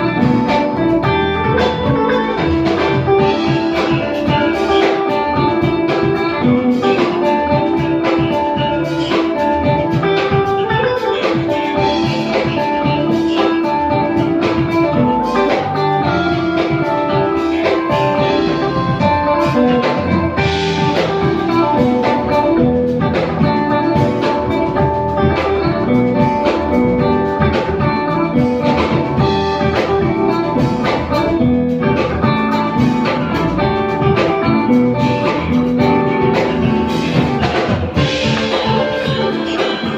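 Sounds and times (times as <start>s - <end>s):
drum kit: 0.0s - 39.9s
jazz guitar: 0.0s - 39.9s
live jazz band: 0.0s - 39.9s.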